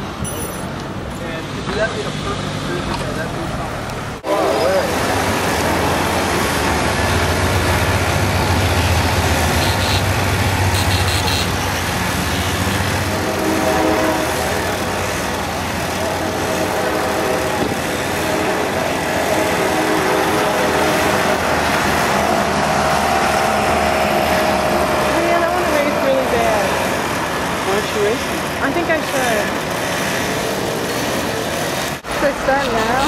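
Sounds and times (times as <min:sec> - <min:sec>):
street noise hiss: 0:00.0 - 0:33.0.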